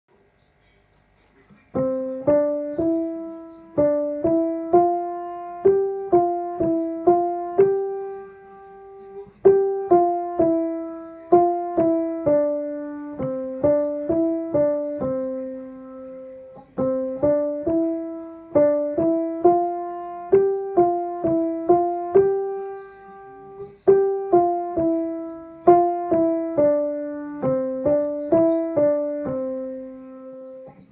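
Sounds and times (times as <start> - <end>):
piano tune: 1.7 - 30.9.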